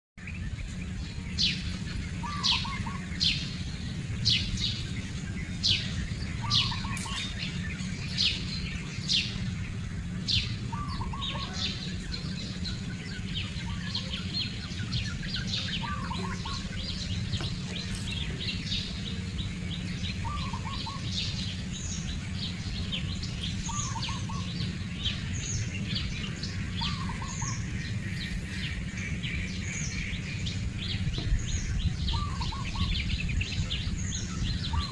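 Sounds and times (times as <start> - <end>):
birds chirping: 0.2 - 34.9
steady low rumble: 0.2 - 34.9.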